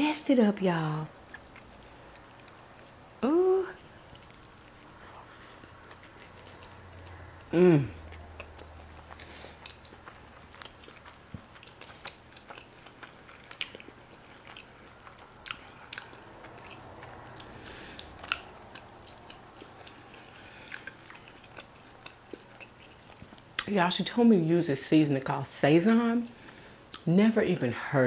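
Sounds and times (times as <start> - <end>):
wet chewing mouth clicks: 1.1 - 23.7.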